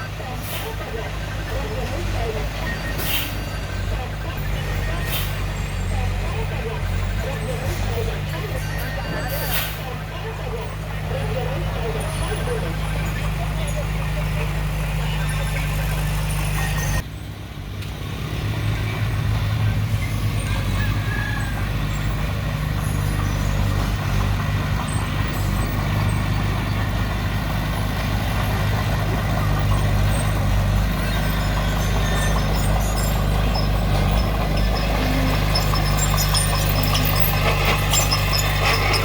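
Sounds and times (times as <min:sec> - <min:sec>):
earthmover diesel engine working: 0:00.0 - 0:39.0.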